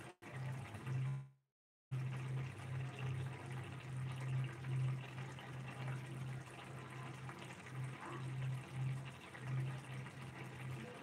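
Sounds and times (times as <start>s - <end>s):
thick gravy bubbling in a pan: 0.0s - 1.2s, 1.9s - 11.0s.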